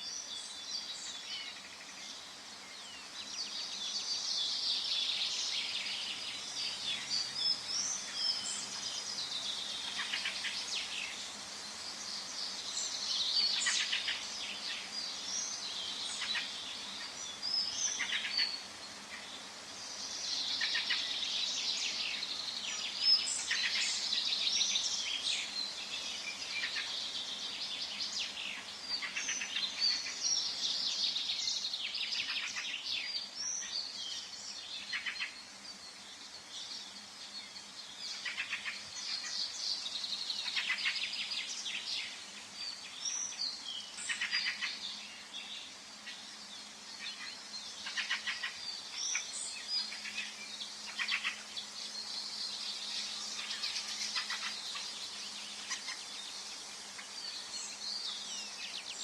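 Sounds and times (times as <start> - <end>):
faint steady background hiss: 0.0 - 59.0
songbirds singing and chirping: 0.0 - 59.0.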